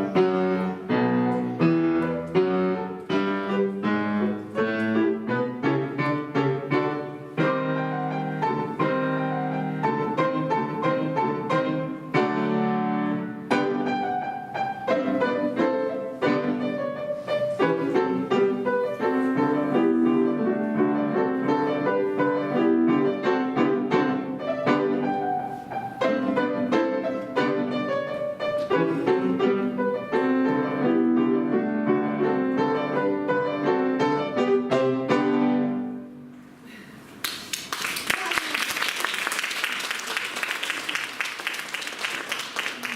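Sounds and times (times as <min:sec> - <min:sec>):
two pianos playing lively piece: 0:00.0 - 0:37.2.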